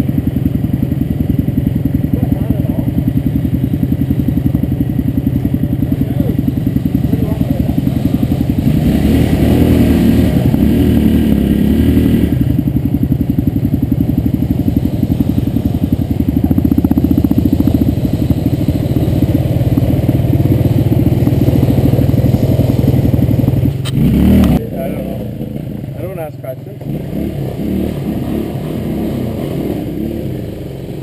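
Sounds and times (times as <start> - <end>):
dirt bike engine at low revs: 0.0 - 31.0.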